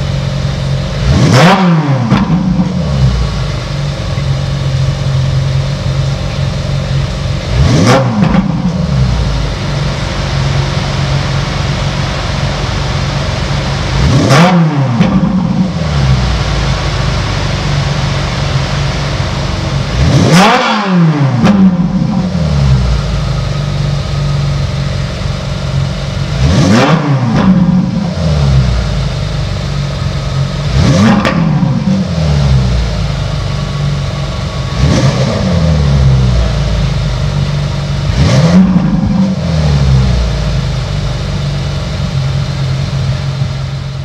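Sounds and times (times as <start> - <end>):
car engine idling and revving: 0.0 - 44.0.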